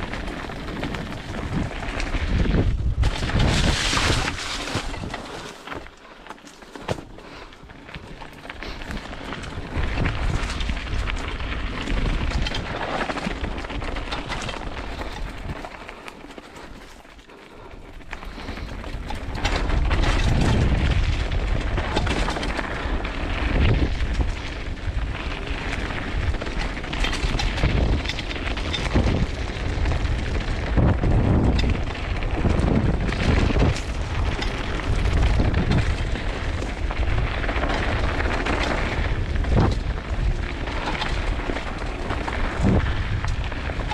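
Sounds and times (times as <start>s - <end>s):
wind buffeting microphone: 0.0s - 5.4s, 8.5s - 15.9s, 17.8s - 43.9s
mountain bike rumbling and rattling: 0.0s - 43.9s.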